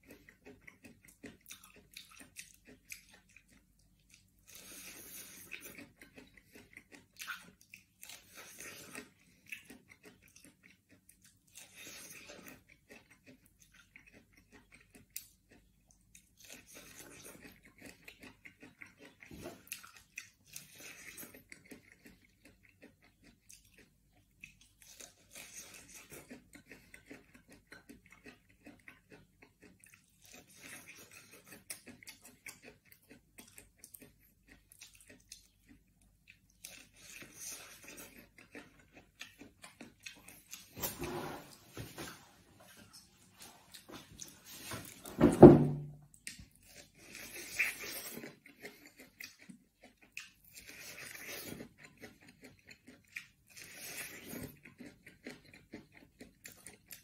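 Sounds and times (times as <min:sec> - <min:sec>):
crunchy chewing of corn: 0:00.0 - 0:45.1, 0:46.1 - 0:57.0.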